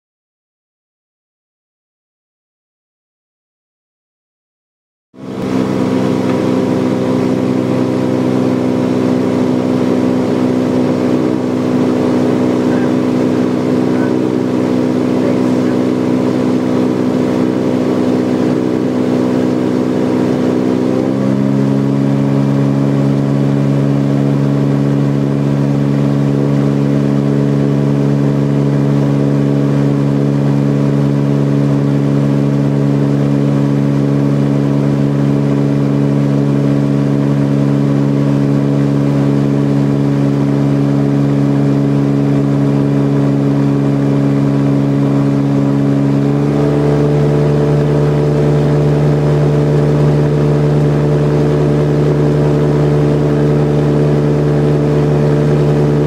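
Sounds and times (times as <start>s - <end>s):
aircraft engine and propeller droning: 5.2s - 56.0s.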